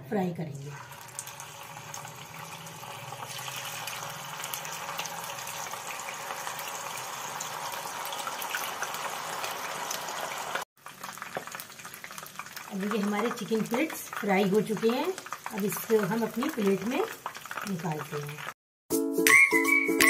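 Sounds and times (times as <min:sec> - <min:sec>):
hot oil sizzling: 0:00.6 - 0:18.6.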